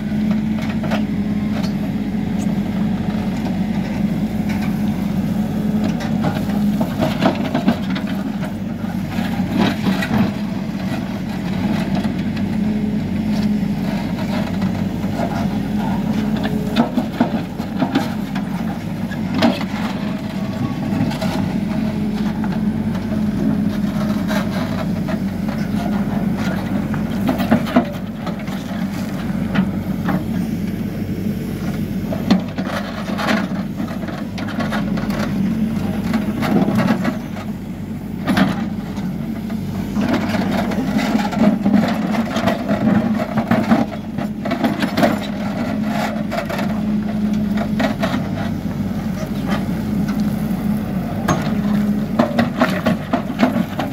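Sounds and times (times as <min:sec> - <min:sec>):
backhoe diesel engine running: 0:00.0 - 0:53.9.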